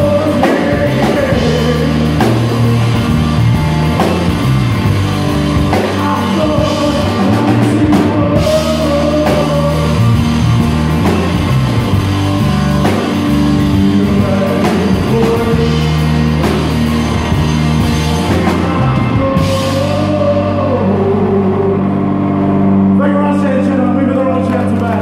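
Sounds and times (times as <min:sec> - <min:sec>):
drum kit: 0:00.0 - 0:23.0
electric guitar: 0:00.0 - 0:25.0.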